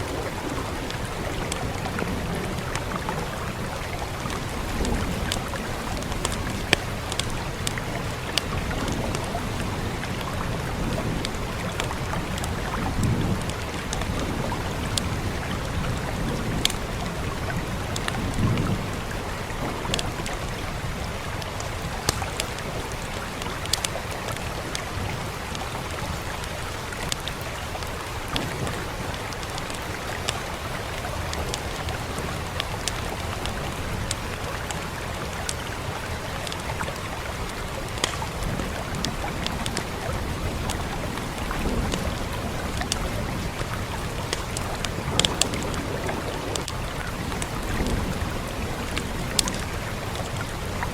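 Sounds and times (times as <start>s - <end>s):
fire crackling and popping: 0.0s - 50.9s
rain hissing: 0.0s - 50.9s.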